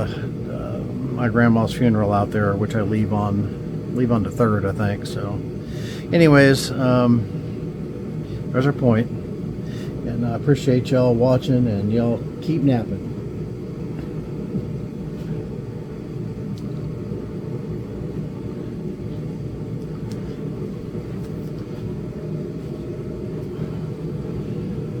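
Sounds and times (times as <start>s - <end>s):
faint hum: 0.0s - 25.0s
low background rumble: 0.0s - 25.0s.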